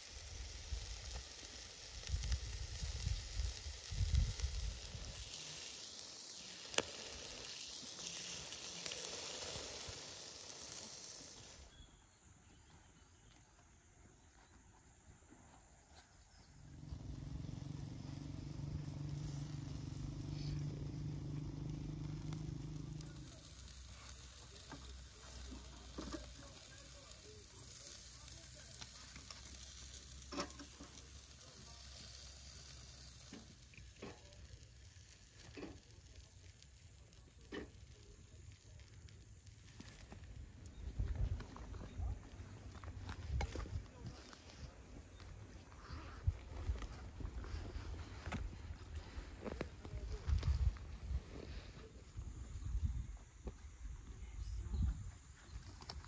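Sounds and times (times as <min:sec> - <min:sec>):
food sizzling on a grill: 0:00.0 - 0:12.6, 0:16.3 - 0:53.6.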